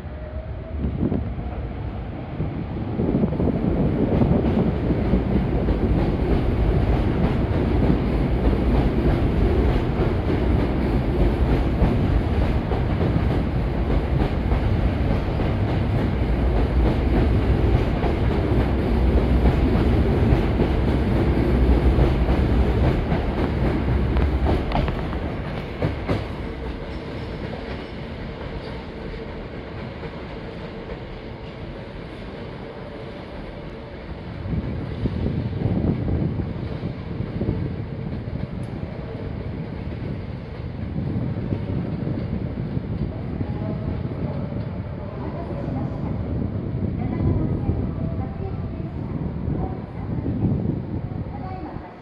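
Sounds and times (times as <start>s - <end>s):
train rumbling past: 0.0s - 52.0s.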